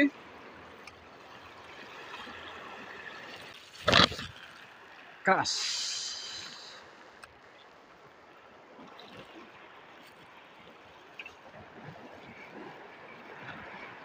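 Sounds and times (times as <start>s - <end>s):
water lapping at rocks: 0.2s - 14.0s.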